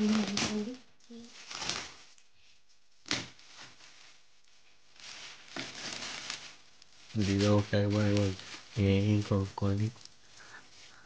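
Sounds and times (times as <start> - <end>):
gift wrapping rustling: 0.0 - 11.0.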